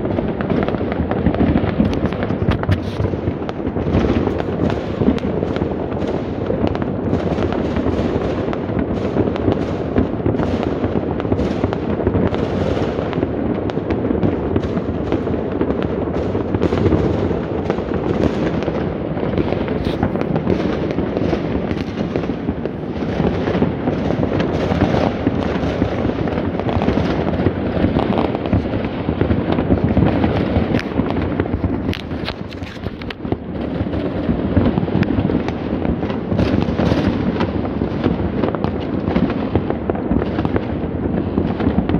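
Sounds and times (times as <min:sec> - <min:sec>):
fireworks and firecrackers banging: 0:00.0 - 0:41.9.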